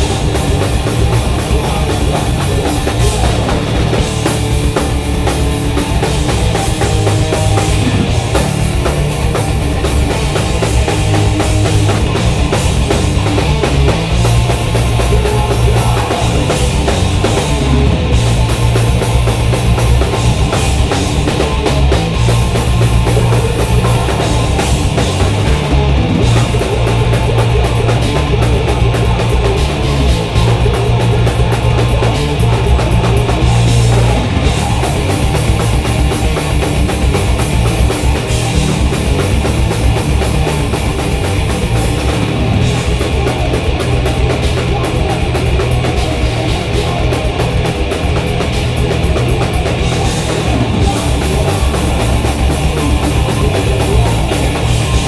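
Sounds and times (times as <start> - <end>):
bass guitar: 0.0 - 55.0
distorted electric guitars: 0.0 - 55.0
fast drum kit: 0.0 - 55.0.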